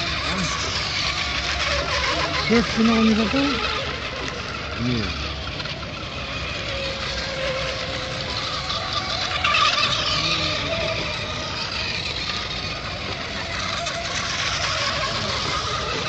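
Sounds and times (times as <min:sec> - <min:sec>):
high motor and propeller whine: 0:00.0 - 0:16.0.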